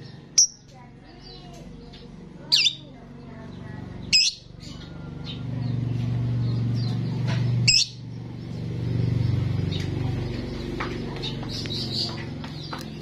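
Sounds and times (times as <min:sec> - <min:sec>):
starling calling: 0:00.0 - 0:13.0.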